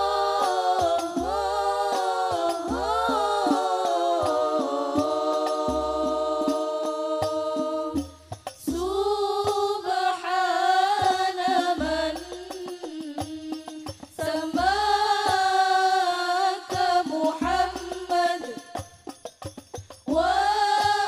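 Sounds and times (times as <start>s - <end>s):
women singing: 0.0s - 19.0s, 20.1s - 21.0s
frame drums: 0.0s - 21.0s.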